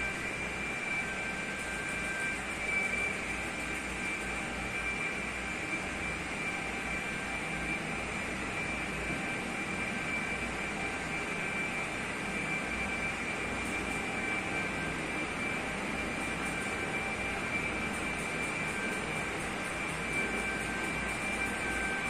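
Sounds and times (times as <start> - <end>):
thin steady high tone: 0.0 - 22.0.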